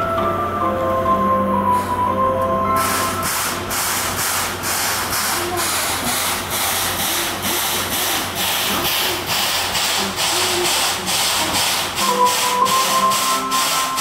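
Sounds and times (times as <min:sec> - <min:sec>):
steam locomotive chuffing: 0:02.8 - 0:14.0.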